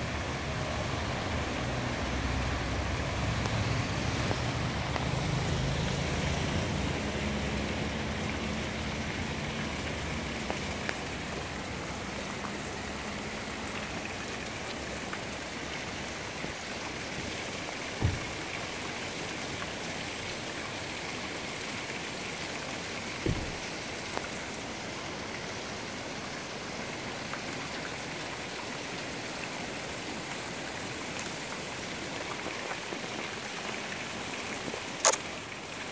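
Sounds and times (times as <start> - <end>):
stream rushing and splashing: 0.0 - 35.9.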